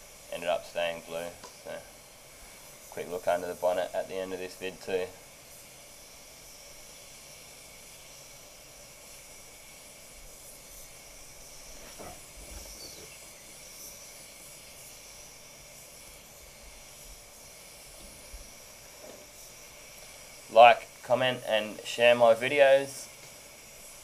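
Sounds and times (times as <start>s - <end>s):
spray gun hissing: 0.0s - 24.0s.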